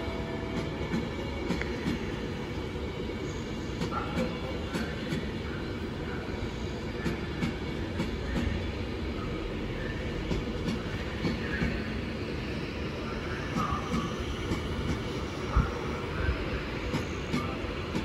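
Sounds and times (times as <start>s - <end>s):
train rumble on track: 0.0s - 18.0s.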